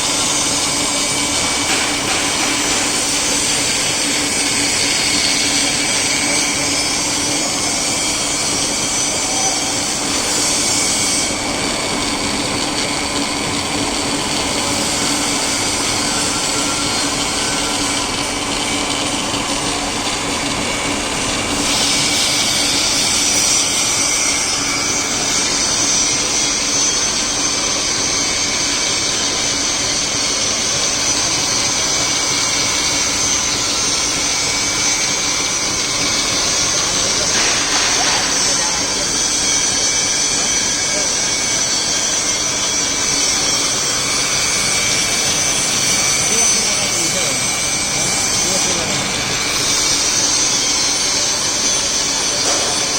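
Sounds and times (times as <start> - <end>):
milling machine motor humming: 0.0 - 52.9.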